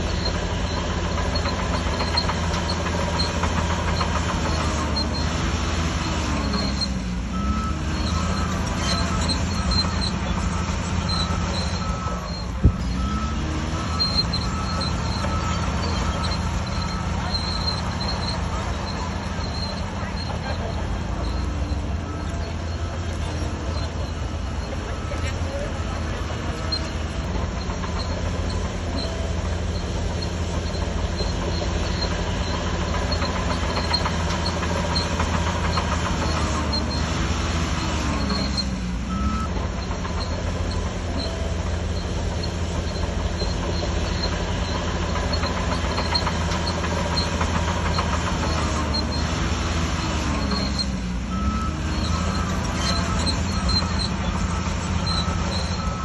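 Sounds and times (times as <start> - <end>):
bulldozer diesel engine under load: 0.0 - 56.0
clatter of steel tracks: 0.0 - 56.0.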